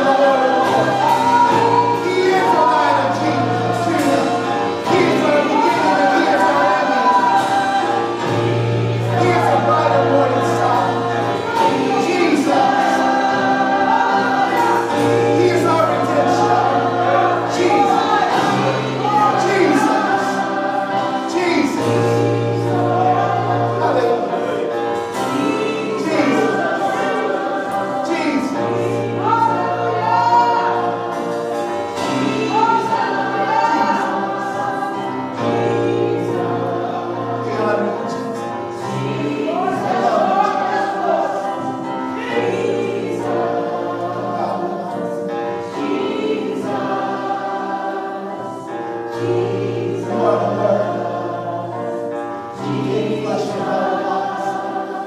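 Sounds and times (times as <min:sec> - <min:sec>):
gospel band playing: 0:00.0 - 0:55.0
voices singing together: 0:00.0 - 0:55.0.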